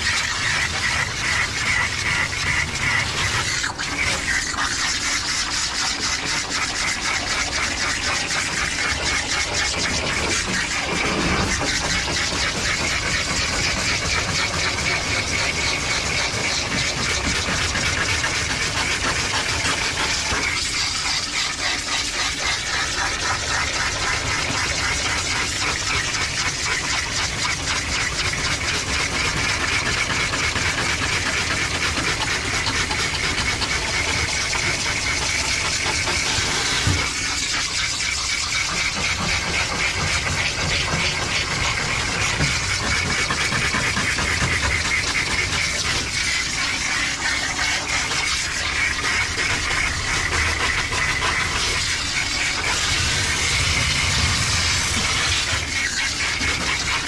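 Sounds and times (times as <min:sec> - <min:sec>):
water spraying from hose: 0:00.0 - 0:57.0.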